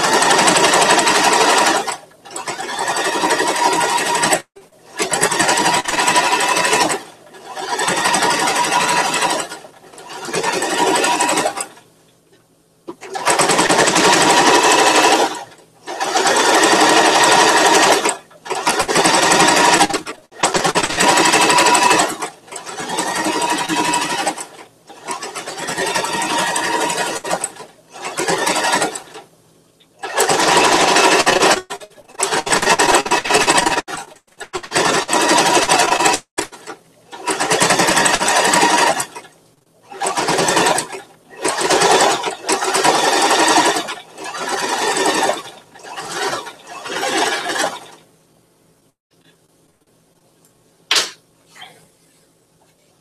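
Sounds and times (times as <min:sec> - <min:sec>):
sewing machine stitching: 0:00.0 - 0:11.9, 0:12.9 - 0:29.3, 0:30.0 - 0:48.1.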